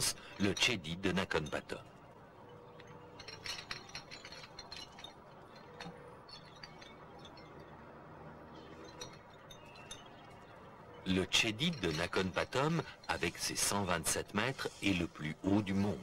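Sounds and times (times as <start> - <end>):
lamps clinking and clicking: 0.0 - 15.9.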